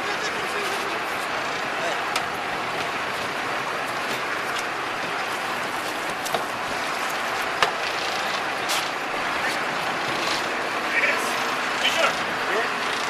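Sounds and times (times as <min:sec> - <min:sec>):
boat engine: 0:00.0 - 0:13.0
wind: 0:00.0 - 0:13.0.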